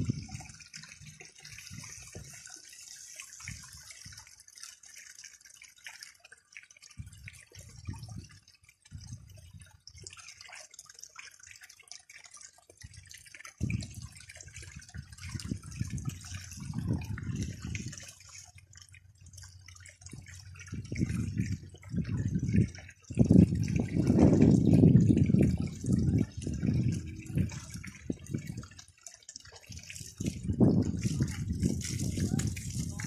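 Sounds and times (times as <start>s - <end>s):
water pouring through sluice box: 0.0s - 33.0s.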